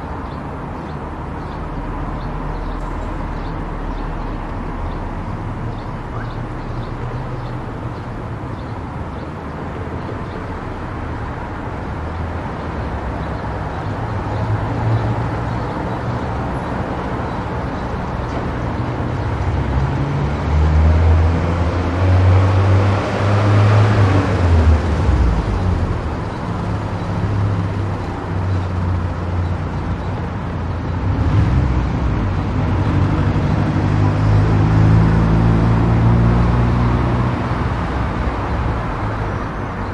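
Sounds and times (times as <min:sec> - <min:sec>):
tyre and road noise: 0:00.0 - 0:39.9
low engine hum: 0:00.6 - 0:39.9.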